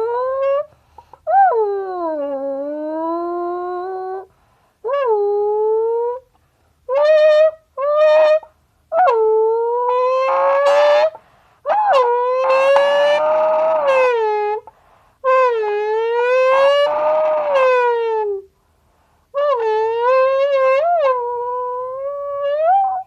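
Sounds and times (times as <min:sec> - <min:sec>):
buzzy can noisemaker tones: 0:00.0 - 0:00.7, 0:01.3 - 0:06.3, 0:06.9 - 0:14.7, 0:15.3 - 0:18.5, 0:19.4 - 0:23.0.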